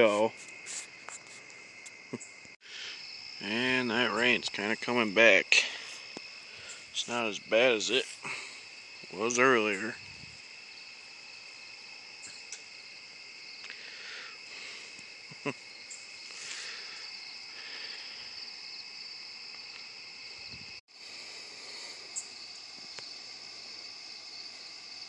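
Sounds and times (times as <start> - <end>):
crickets and insects trilling: 0.0 - 25.0.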